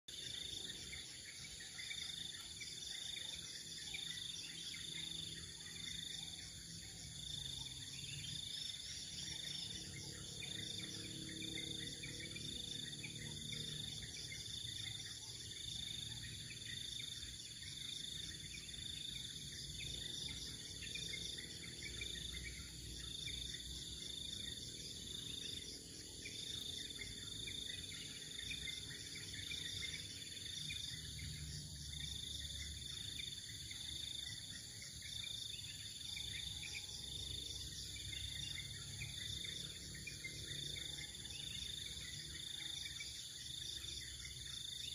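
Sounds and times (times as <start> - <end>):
forest insects trilling: 0.1 - 44.9.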